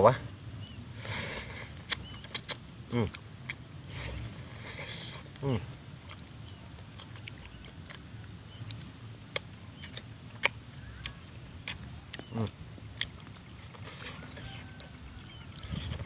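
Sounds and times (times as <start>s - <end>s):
high insect whine: 0.0s - 16.0s
low falling hum from eater: 0.0s - 16.0s
crunchy chewing: 0.6s - 16.0s.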